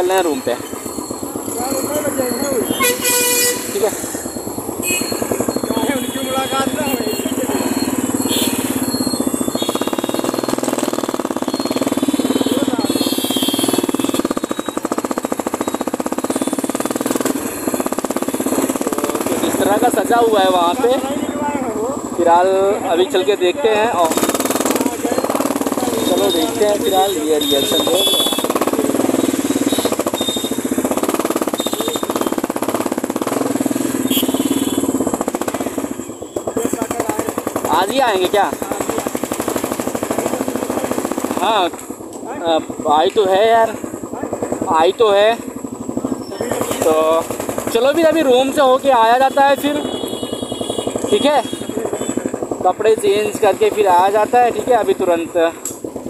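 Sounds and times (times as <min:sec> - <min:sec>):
city traffic: 0:00.0 - 0:56.0
motorcycle engine running: 0:00.0 - 0:56.0.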